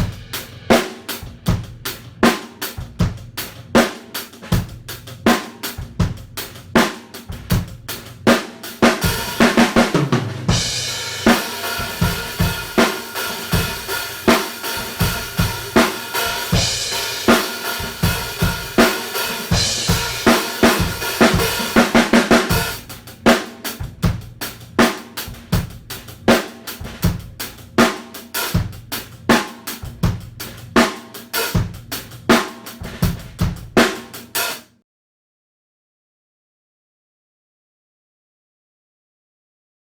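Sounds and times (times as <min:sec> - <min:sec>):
bass drum: 0:00.0 - 0:34.4
hi-hat cymbals: 0:00.0 - 0:34.6
snare drum: 0:00.0 - 0:34.7.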